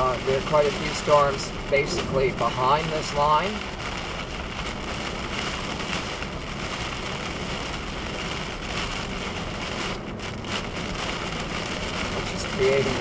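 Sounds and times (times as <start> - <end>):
car driving on road: 0.0 - 13.0
heavy rain on car roof: 0.0 - 13.0.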